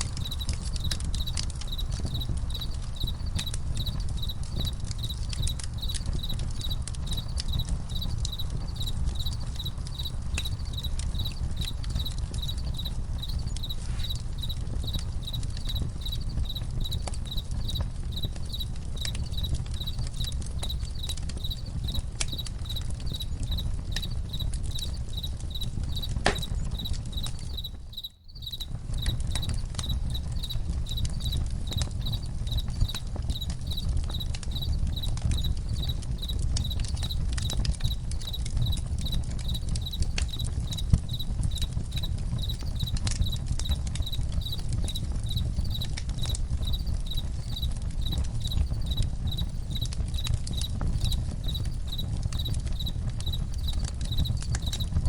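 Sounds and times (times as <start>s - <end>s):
campfire crackling: 0.0s - 55.0s
crickets chirping: 0.0s - 55.0s.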